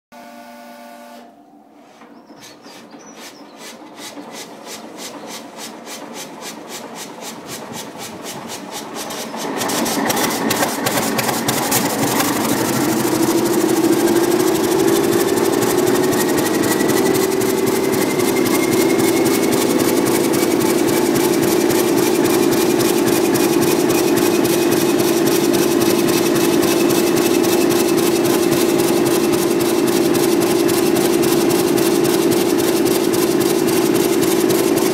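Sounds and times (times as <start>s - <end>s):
diesel locomotive engine starting: 0.1s - 34.9s
engine whine: 0.2s - 34.9s.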